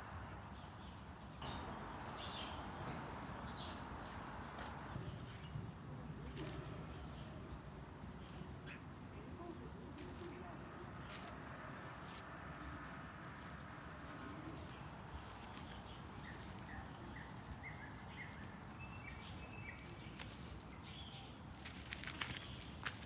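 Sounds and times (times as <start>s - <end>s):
insects chirping: 0.0s - 7.2s, 8.0s - 9.1s, 9.8s - 20.9s.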